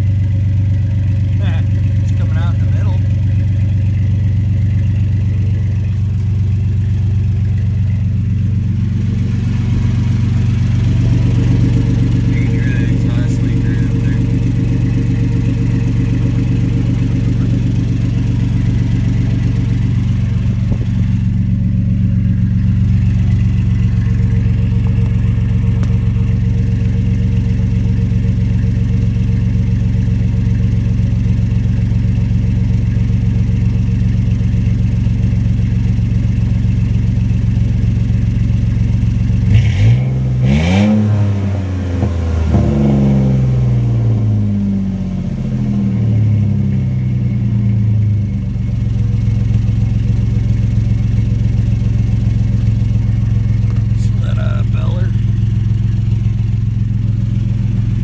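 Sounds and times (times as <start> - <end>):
truck engine idling and revving: 0.0 - 58.0.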